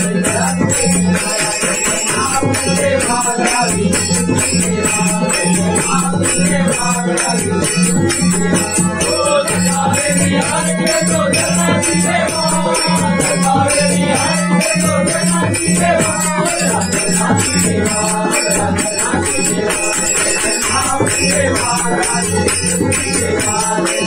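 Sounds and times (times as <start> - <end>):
hand clapping: 0.0 - 11.2, 15.9 - 24.0
jingling percussion: 0.0 - 24.0
men singing together: 0.0 - 24.0.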